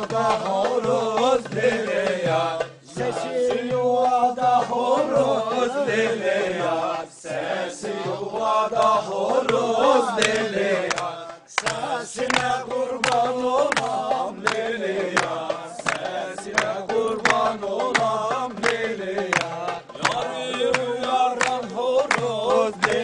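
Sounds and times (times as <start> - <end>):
folk dance music: 0.0 - 23.0.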